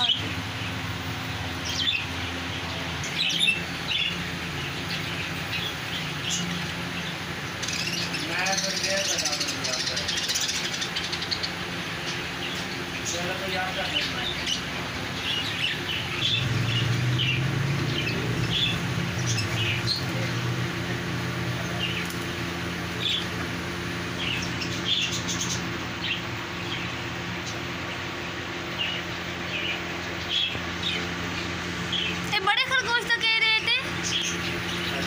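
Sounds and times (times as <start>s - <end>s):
caged birds chirping: 0.0s - 35.0s
steady low hum: 0.0s - 35.0s.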